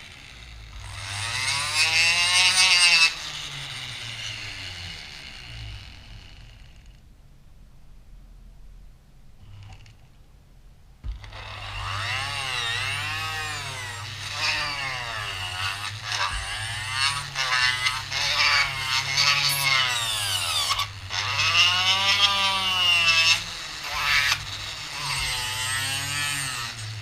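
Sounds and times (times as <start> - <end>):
grinder whining cutting wood: 0.0 - 7.0, 11.1 - 27.0.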